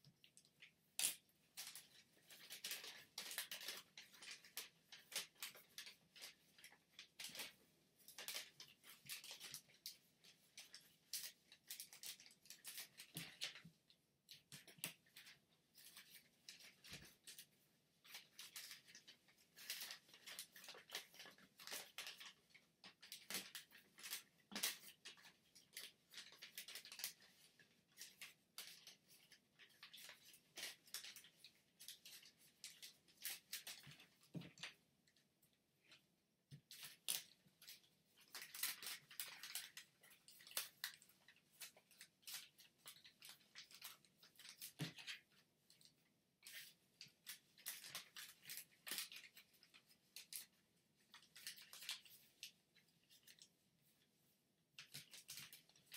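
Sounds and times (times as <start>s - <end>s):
paper crackling and rustling: 1.0s - 34.8s, 36.5s - 53.6s, 54.7s - 55.9s.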